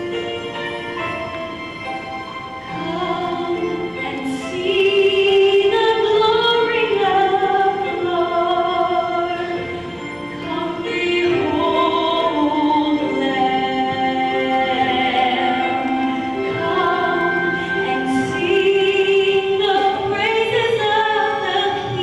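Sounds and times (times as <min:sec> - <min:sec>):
classical-style singing: 0:00.0 - 0:22.0.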